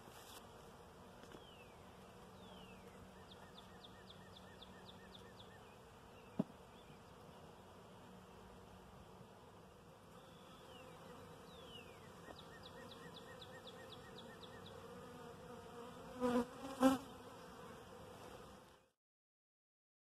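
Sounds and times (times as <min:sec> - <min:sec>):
bees buzzing: 0:00.5 - 0:18.8.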